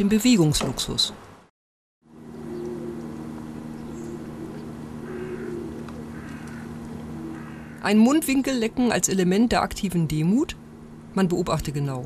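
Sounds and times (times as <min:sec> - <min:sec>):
steady low hum and hiss: 0:02.1 - 0:12.0.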